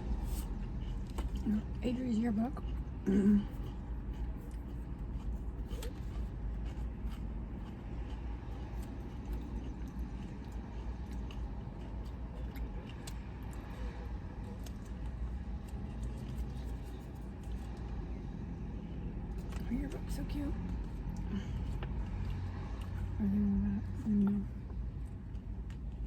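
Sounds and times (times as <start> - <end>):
low rumble inside car: 0.0 - 26.0.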